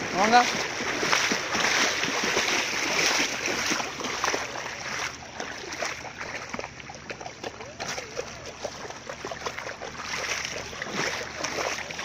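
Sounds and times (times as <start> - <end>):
feet wading through water: 0.0 - 12.0.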